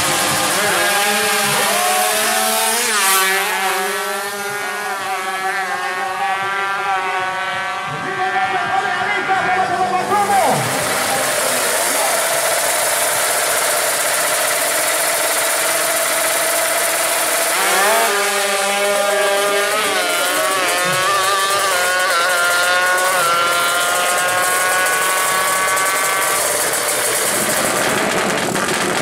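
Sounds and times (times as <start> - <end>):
motorcycle engine revving and accelerating: 0.0 - 29.0.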